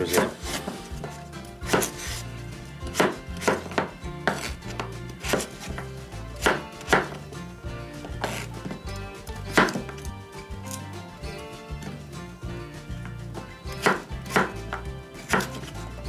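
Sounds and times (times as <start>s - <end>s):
knife chopping potatoes on wooden board: 0.0s - 12.0s, 12.9s - 15.9s.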